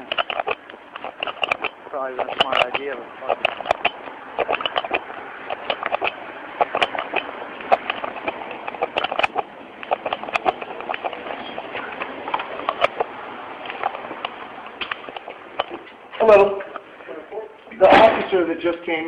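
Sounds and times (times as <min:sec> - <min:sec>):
recorder handling clicks and knocks: 0:00.0 - 0:16.0
footsteps: 0:00.0 - 0:18.3.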